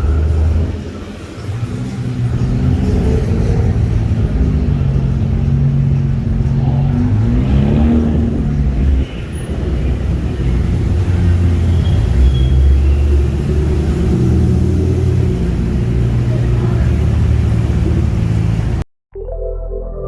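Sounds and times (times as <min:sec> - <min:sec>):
car engine revving: 0:00.0 - 0:18.8
cars passing slowly: 0:00.0 - 0:18.8.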